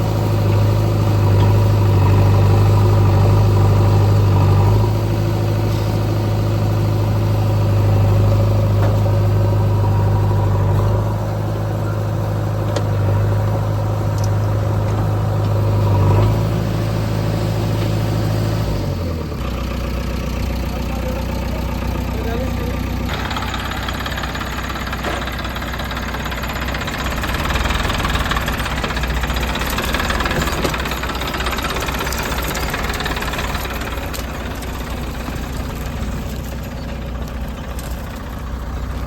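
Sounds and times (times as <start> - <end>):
diesel engine humming: 0.0 - 39.0.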